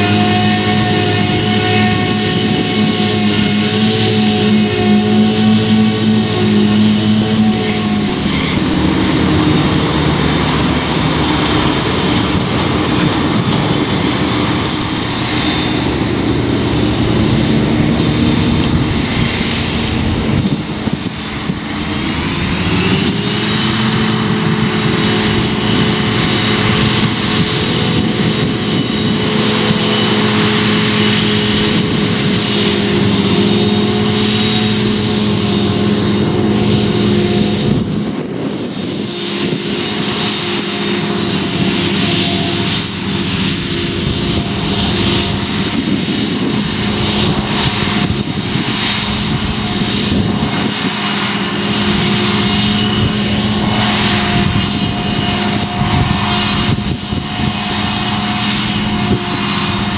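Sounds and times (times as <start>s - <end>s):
tractor engine: 0.0s - 59.9s.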